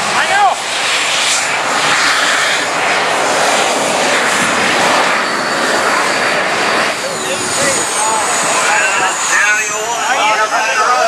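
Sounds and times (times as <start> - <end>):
tractor engine at full power: 0.0 - 11.0.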